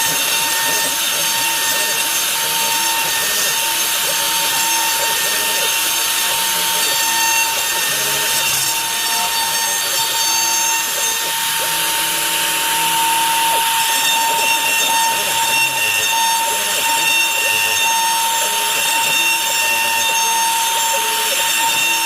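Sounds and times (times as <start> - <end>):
cnc router spindle whine: 0.0 - 22.0
motor tones ramping in pitch: 0.0 - 22.0
router bit cutting wood: 0.0 - 22.0.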